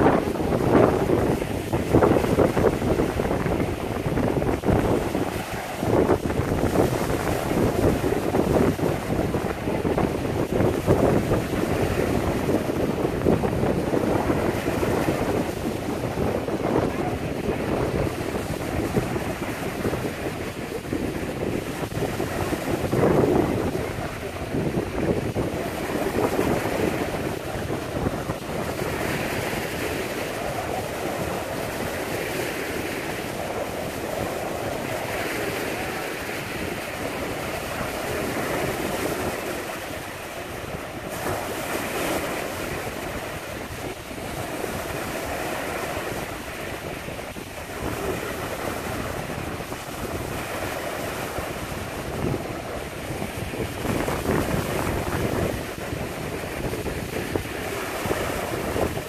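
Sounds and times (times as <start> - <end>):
waves breaking on shore: 0.0 - 59.0
wind buffeting microphone: 0.0 - 59.0.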